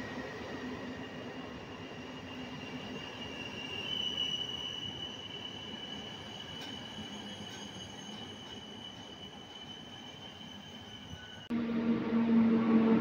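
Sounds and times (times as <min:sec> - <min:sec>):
train coaches squealing: 0:00.0 - 0:11.5.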